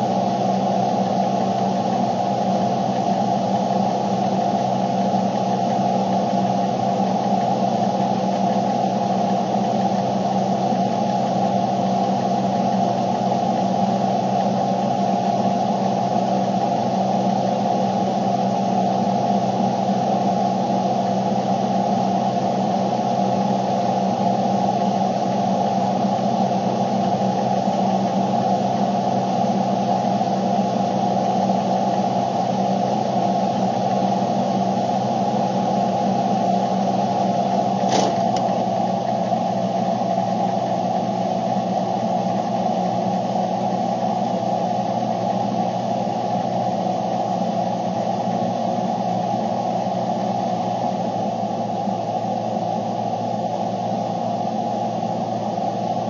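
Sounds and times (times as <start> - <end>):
loud steady hum: 0.0 - 56.0.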